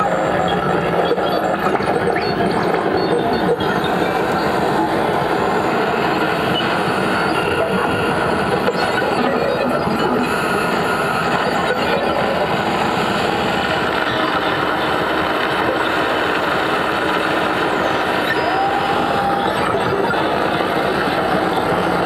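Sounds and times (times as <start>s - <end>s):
electronic noise texture: 0.0s - 22.0s.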